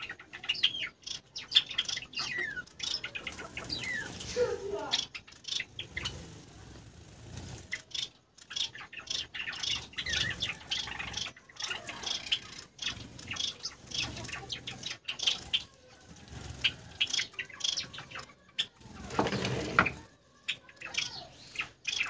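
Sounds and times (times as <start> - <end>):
finches chirping: 0.0 - 22.0.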